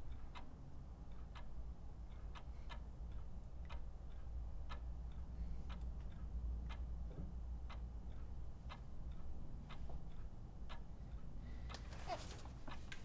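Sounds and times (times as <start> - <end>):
clock ticking: 0.0 - 11.8
low steady hum: 0.0 - 13.0.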